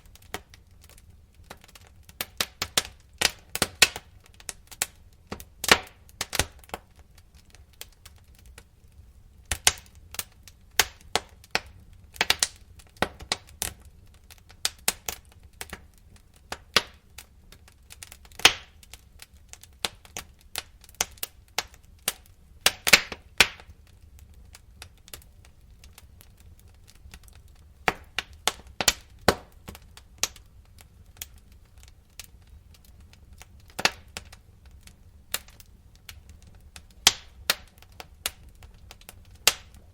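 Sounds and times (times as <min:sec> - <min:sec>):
low rumble of burning logs: 0:00.0 - 0:39.9
wood fire crackling: 0:00.0 - 0:39.9.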